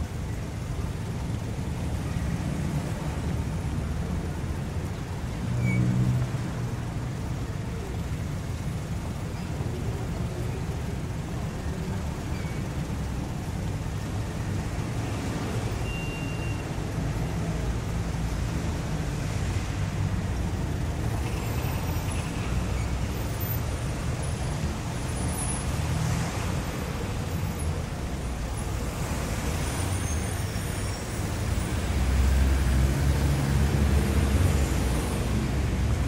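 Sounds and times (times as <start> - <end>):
distant city traffic rumble: 0.0 - 36.0.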